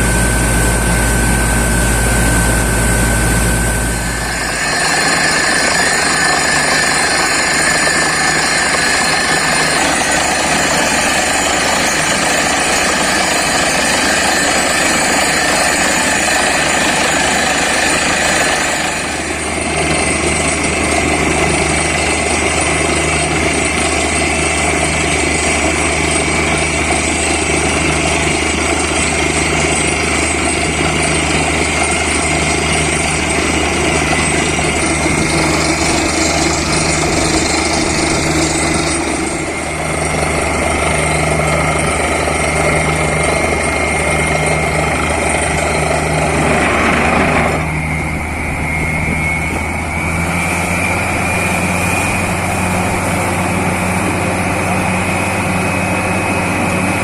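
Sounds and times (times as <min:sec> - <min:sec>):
drilling rig engine and compressor: 0:00.0 - 0:57.0.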